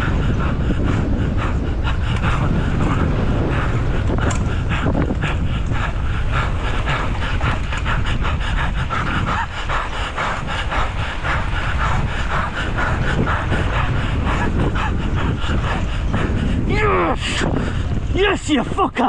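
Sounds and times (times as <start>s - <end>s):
person panting hard: 0.0s - 18.1s
wind on microphone: 0.0s - 19.0s.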